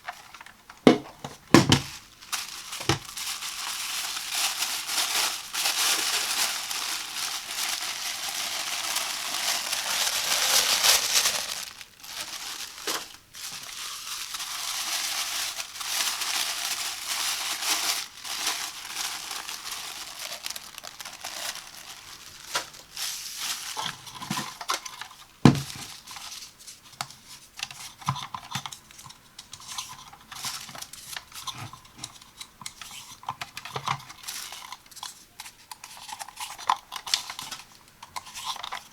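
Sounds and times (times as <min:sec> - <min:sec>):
packaging crinkling and tearing: 0:00.0 - 0:26.6, 0:29.6 - 0:38.9.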